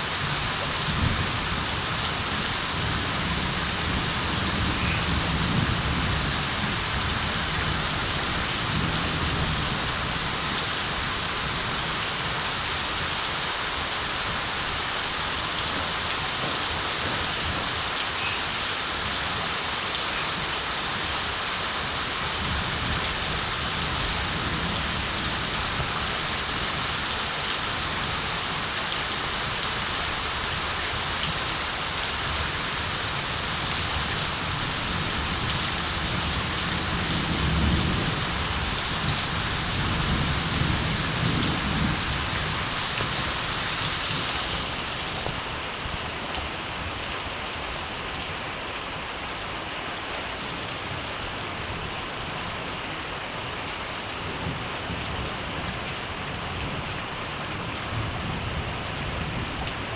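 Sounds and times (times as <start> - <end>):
rain pattering: 0.0 - 49.5, 50.6 - 59.9.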